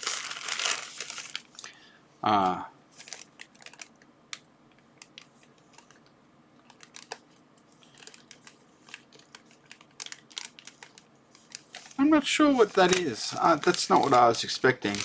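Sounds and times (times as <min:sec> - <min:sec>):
plastic bags crinkling: 0:00.0 - 0:01.7, 0:03.0 - 0:04.4, 0:05.0 - 0:15.0.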